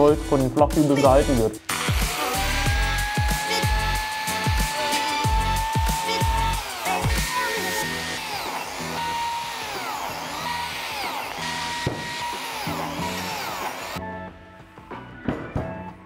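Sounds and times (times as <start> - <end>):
biscuit joiner whining: 0.9 - 14.0.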